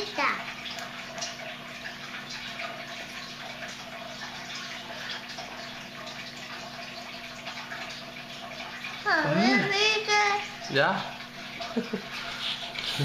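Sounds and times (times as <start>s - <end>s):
low electric hum: 0.0s - 13.0s
water trickling: 0.0s - 13.0s.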